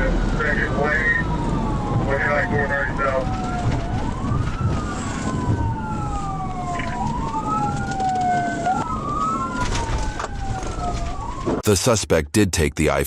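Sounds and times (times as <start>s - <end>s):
police siren wailing: 0.0s - 11.6s
second wailing siren tone: 0.0s - 11.6s.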